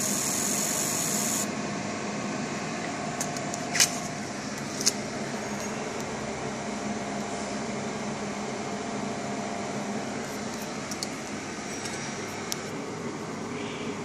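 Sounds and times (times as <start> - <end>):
cooling fan whirring: 0.0 - 14.0.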